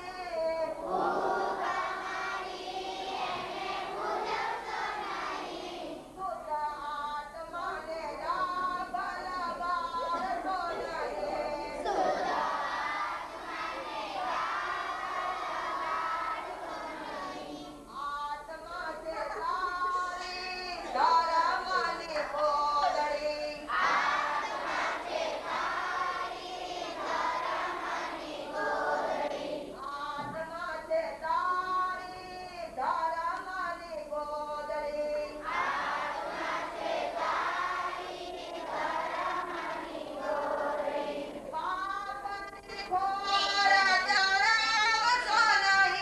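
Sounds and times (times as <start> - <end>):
children singing together: 0.0 - 30.4, 35.0 - 46.0.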